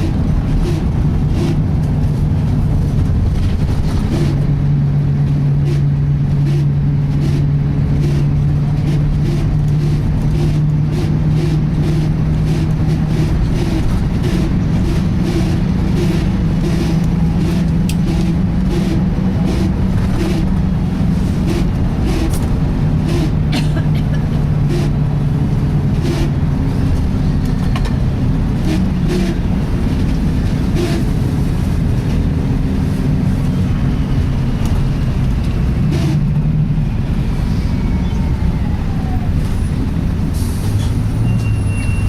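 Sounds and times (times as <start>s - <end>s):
bus engine drone: 0.0s - 42.0s.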